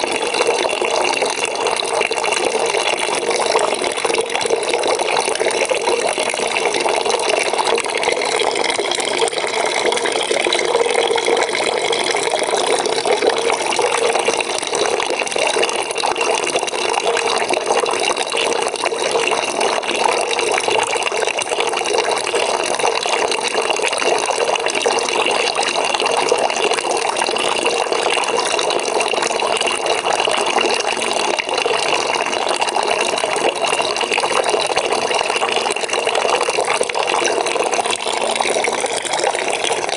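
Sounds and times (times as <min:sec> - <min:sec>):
tap water pouring into a bucket: 0:00.0 - 0:39.9.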